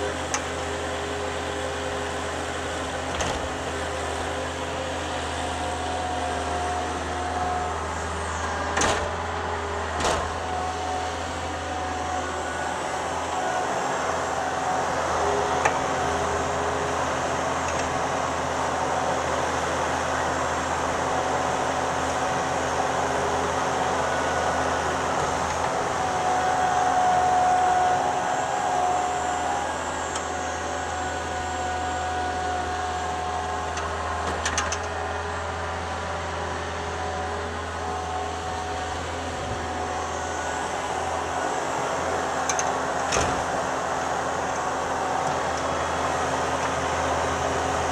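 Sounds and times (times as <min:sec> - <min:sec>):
loader engine running: 0:00.0 - 0:47.9.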